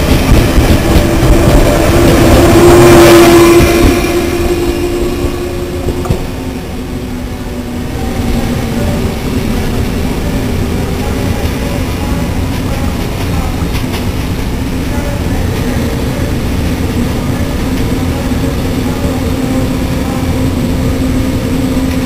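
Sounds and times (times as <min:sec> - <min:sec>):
train power car hum: 0:00.0 - 0:22.0
train wheels on rails: 0:00.0 - 0:22.0.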